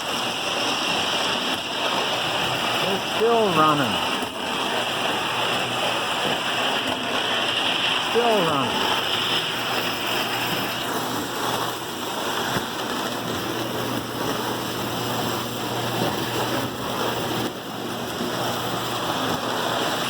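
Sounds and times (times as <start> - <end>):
faint motor hum: 0.0 - 20.0
toy train wheels rumbling on track: 0.0 - 20.0.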